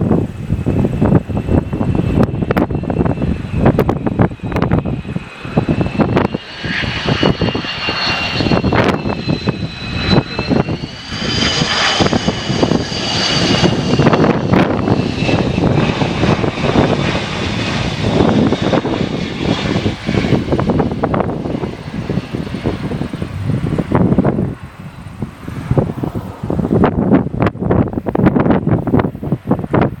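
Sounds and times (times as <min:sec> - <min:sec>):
heavy rumble: 0:00.0 - 0:30.0
jet engines whining: 0:00.0 - 0:30.0
wind buffeting microphone: 0:00.0 - 0:30.0.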